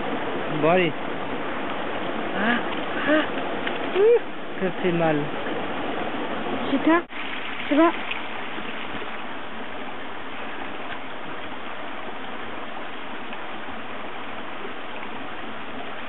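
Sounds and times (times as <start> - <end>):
stream and waterfall rushing: 0.0 - 16.0.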